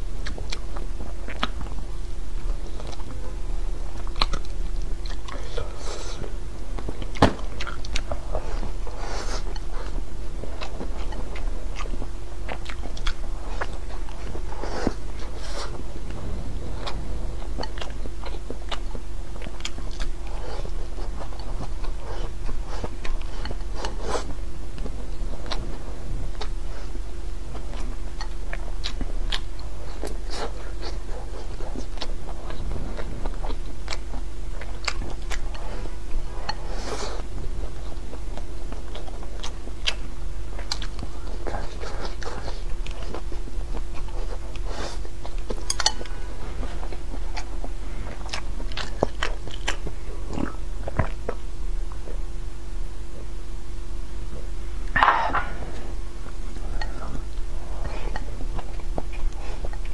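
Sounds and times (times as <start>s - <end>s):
steady hum: 0.0s - 59.9s
person chewing food: 0.2s - 52.4s, 54.3s - 59.9s.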